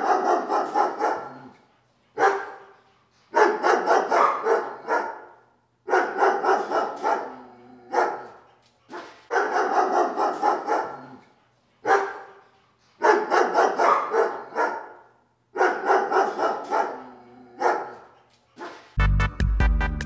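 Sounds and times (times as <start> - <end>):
dog barking rapidly: 0.0 - 1.5, 2.2 - 2.7, 3.4 - 11.2, 11.8 - 12.4, 13.0 - 19.0.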